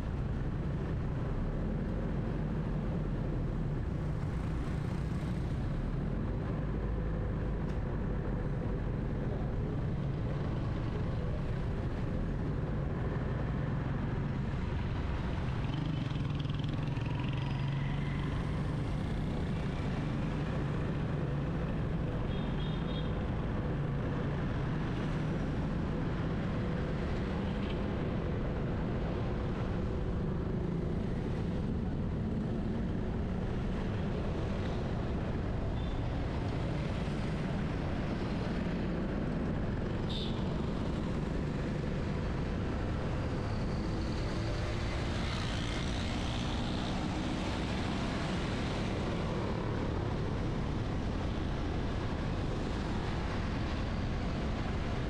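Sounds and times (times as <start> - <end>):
car engine and road rumble: 0.0 - 55.0
street traffic: 0.0 - 55.0.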